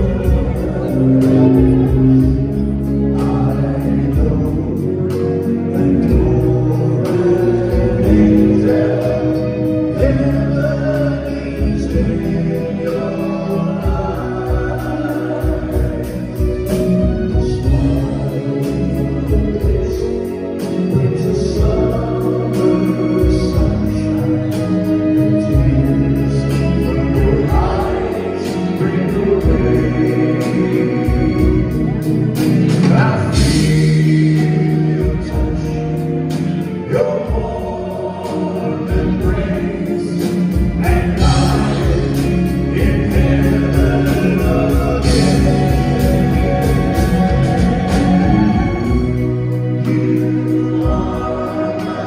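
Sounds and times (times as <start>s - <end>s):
live band playing: 0.0s - 52.0s
male vocal group singing: 0.0s - 52.0s.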